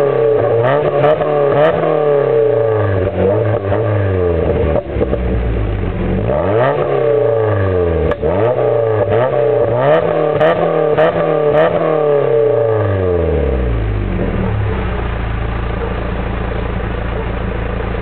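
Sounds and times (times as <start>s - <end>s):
car engine revving: 0.0s - 18.0s
exhaust cracks: 0.0s - 18.0s.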